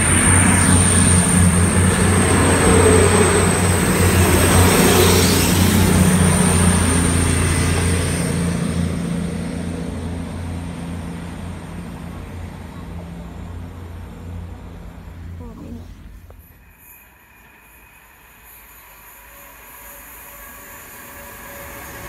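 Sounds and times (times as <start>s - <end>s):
train passing close by: 0.0s - 22.0s.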